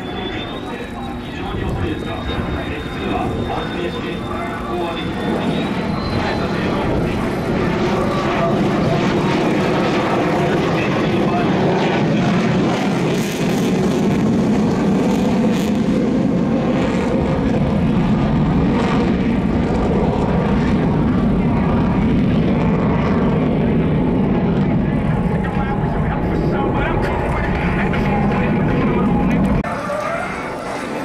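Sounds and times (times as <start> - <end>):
jet engine rumble: 0.0 - 31.0.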